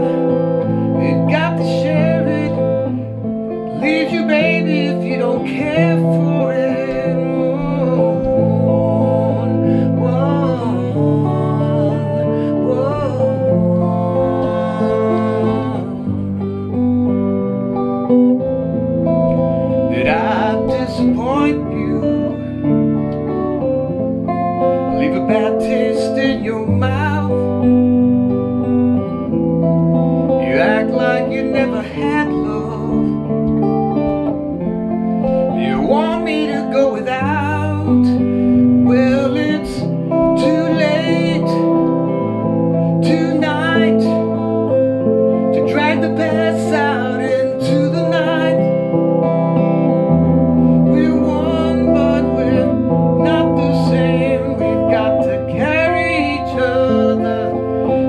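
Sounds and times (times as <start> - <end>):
electric guitar chords and melody: 0.0 - 58.0.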